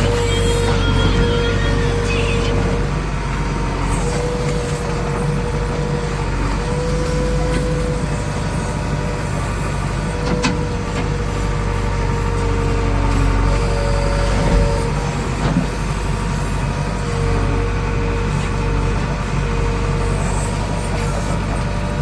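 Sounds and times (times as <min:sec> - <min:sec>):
diesel engine running: 0:00.0 - 0:22.0
engine whine: 0:00.0 - 0:22.0.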